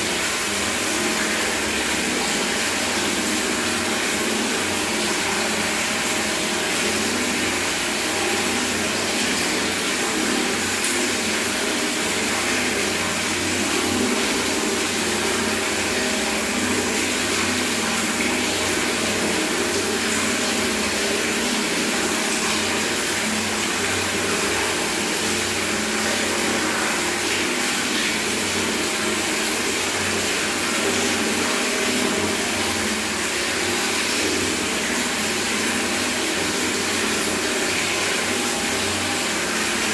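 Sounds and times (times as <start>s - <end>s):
tap water pouring into bucket: 0.0s - 39.9s.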